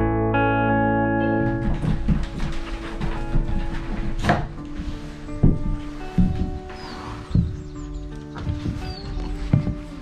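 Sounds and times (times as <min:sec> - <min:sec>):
plucked string music: 0:00.0 - 0:10.0.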